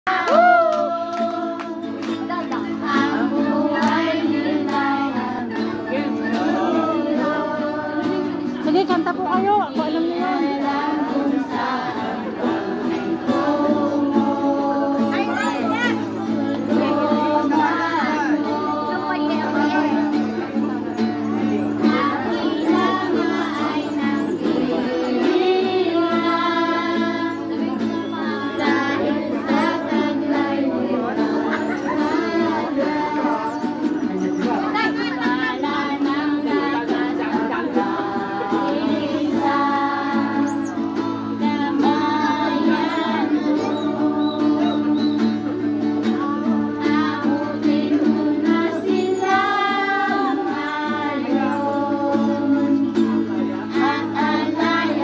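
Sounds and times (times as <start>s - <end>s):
acoustic guitar strumming: 0.1s - 55.0s
man and woman singing: 0.1s - 55.0s.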